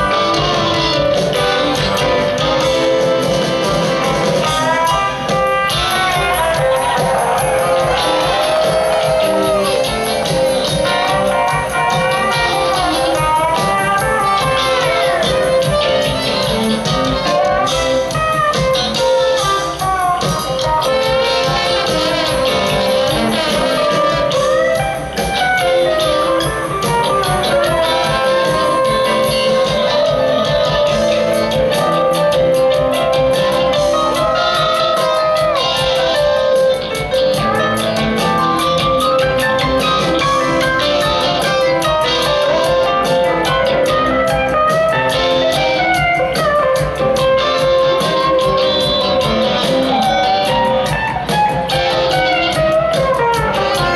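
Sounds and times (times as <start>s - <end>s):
rock band playing: 0.0s - 53.9s
steady drums: 0.0s - 53.9s.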